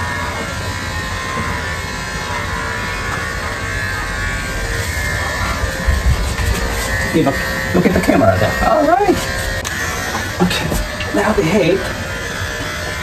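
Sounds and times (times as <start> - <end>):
electric clippers buzzing: 0.0 - 13.0.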